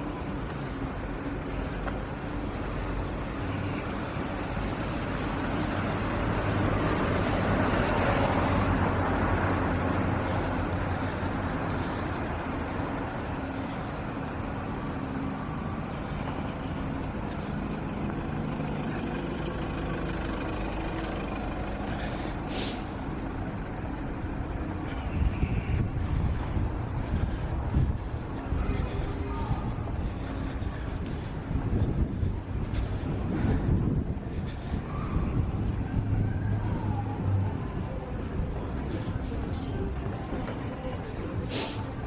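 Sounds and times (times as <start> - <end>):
hiss of passing traffic: 0.0 - 42.0
large diesel vehicles running: 0.0 - 42.0.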